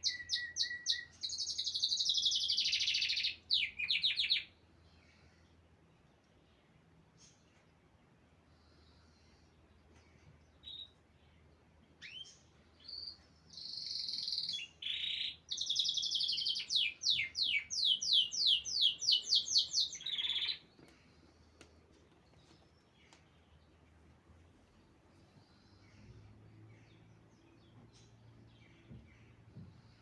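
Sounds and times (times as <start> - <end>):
songbird singing: 0.0 - 30.0.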